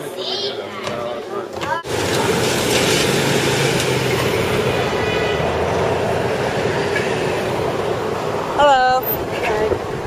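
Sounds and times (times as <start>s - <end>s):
rumble of passing traffic: 1.6s - 10.0s.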